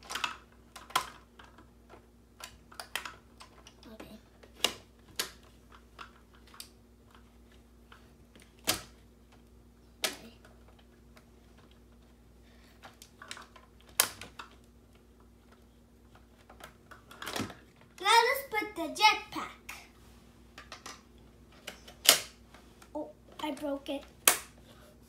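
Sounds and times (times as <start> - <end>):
plastic parts clicking and knocking: 0.0 - 18.0, 20.5 - 24.7.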